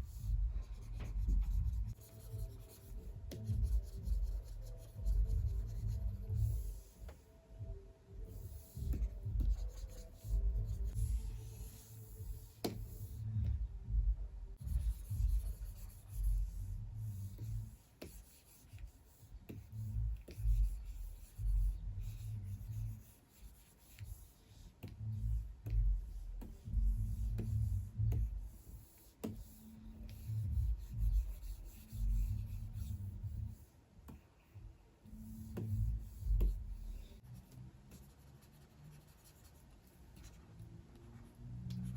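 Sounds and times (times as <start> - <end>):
stylus scratching on screen: 0.0 - 7.2, 8.2 - 13.6, 14.6 - 41.9.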